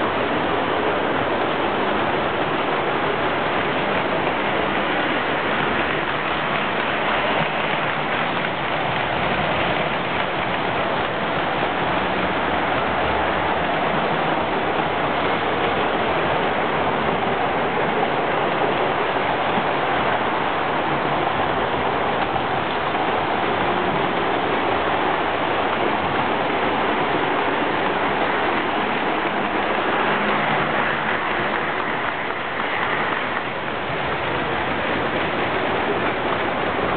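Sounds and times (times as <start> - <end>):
model train whirring on track: 0.0 - 36.9.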